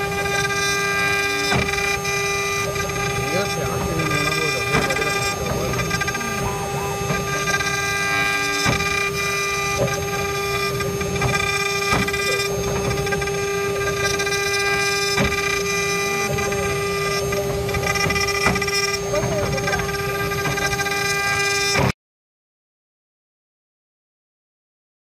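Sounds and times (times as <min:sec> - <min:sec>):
cutter rasping in wood: 0:00.0 - 0:21.9
spindle high whine: 0:00.0 - 0:21.9.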